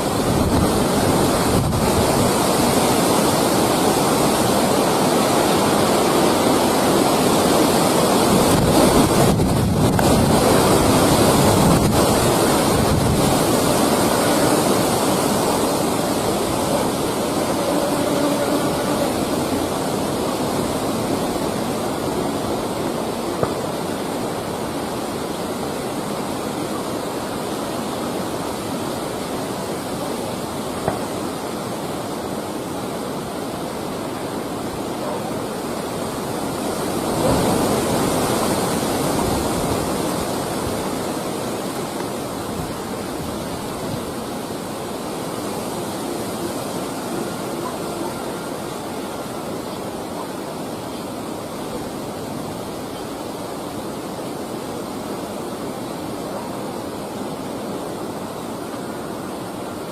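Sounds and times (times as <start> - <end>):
rushing wind: 0.0 - 59.9.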